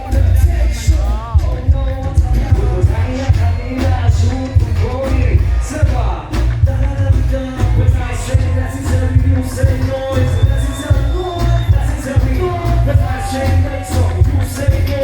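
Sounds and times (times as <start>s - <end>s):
heavy pulsing bass beat: 0.0s - 15.0s
person singing: 0.0s - 15.0s.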